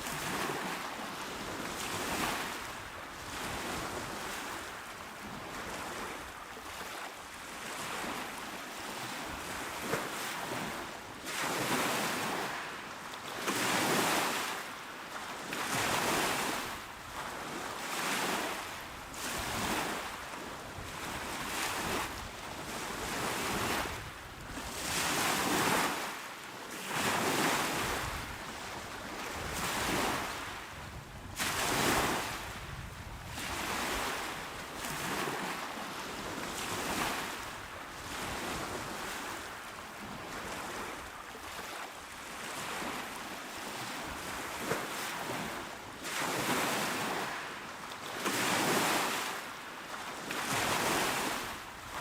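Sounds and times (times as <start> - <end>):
waves breaking on shore: 0.0 - 52.0.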